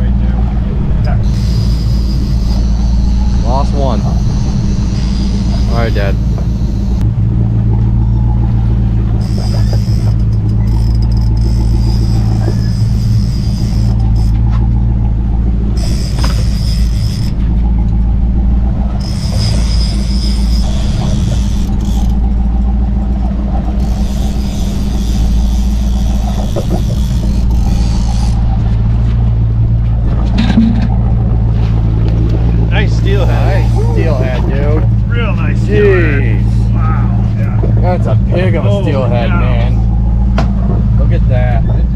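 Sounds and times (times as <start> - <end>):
boat engine low drone: 0.0 - 41.9.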